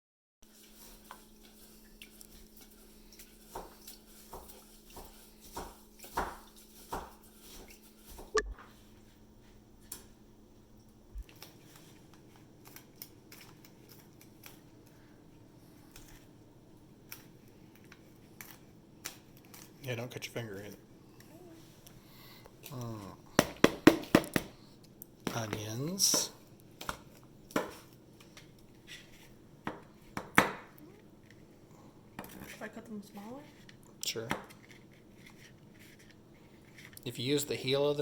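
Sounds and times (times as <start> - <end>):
faint steady hum: 0.5 - 38.0.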